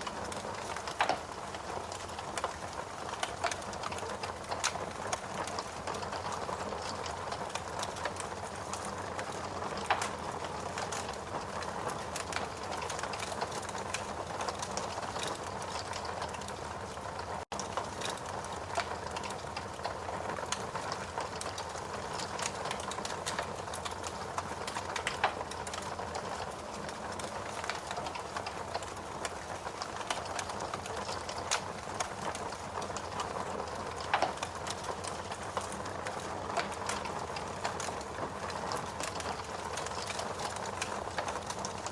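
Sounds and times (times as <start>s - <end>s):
steady rain: 0.0s - 41.9s
wood fire crackling and popping: 0.0s - 41.9s.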